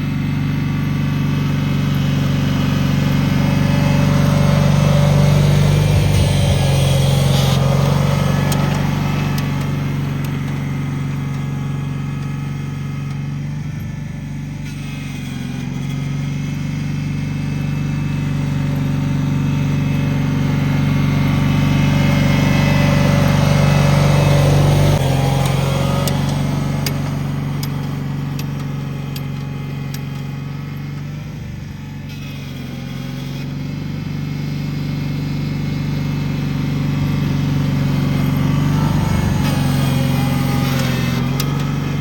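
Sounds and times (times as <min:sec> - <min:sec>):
garden tractor engine running: 0:00.0 - 0:42.0.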